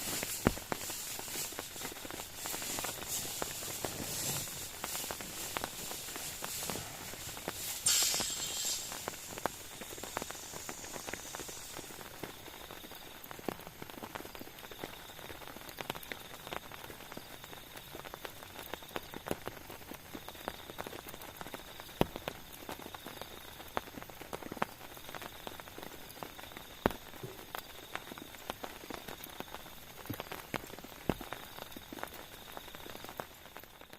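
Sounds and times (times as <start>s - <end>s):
faint steady hiss: 0.0s - 33.9s
raindrops pattering: 0.0s - 33.9s.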